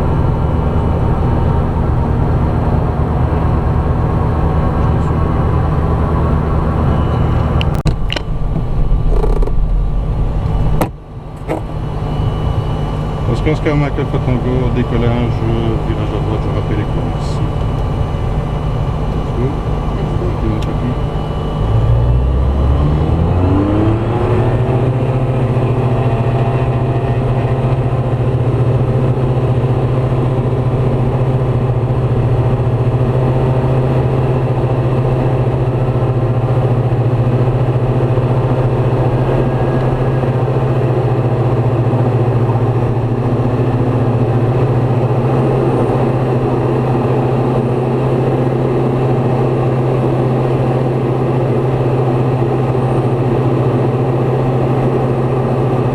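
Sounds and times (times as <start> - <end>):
light aircraft piston engine: 0.0 - 55.9.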